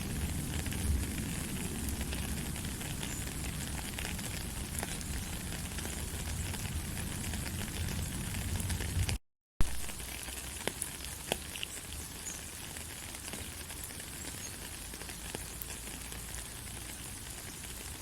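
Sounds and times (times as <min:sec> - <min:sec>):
faint raindrop ticks: 0:00.0 - 0:09.2, 0:09.8 - 0:18.0
gentle steady rain: 0:00.0 - 0:18.0.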